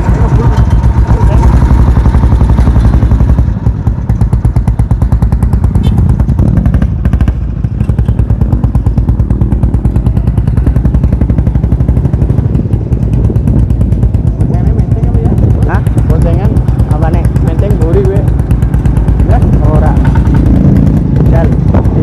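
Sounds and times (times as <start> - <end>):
motorcycle engine chugging: 0.0 - 22.0.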